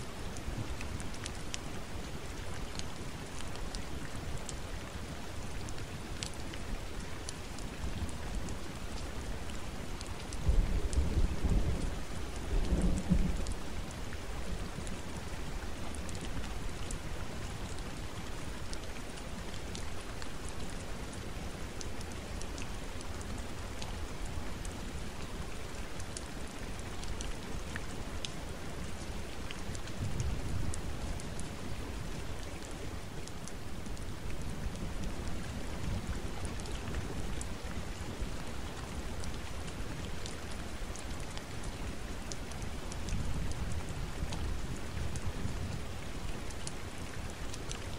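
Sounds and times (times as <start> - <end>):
rain falling in forest: 0.0 - 47.9.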